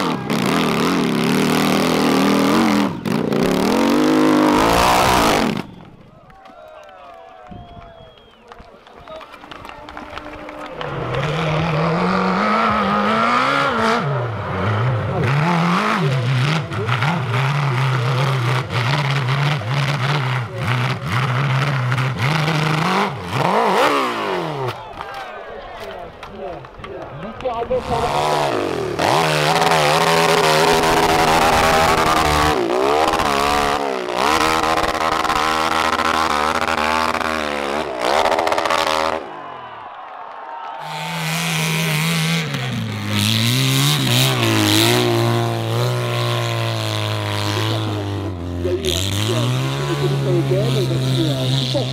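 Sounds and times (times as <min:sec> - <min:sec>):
dirt bike engine revving: 0:00.0 - 0:06.1, 0:10.0 - 0:25.1, 0:27.3 - 0:40.0, 0:40.7 - 0:51.9.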